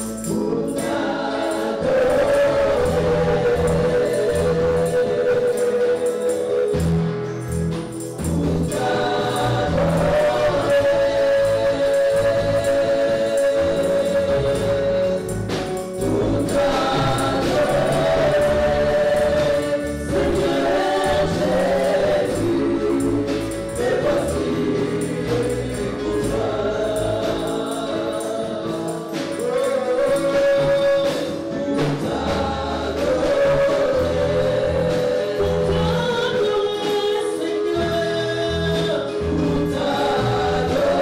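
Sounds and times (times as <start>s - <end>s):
gospel choir singing with band: 0.0s - 41.0s.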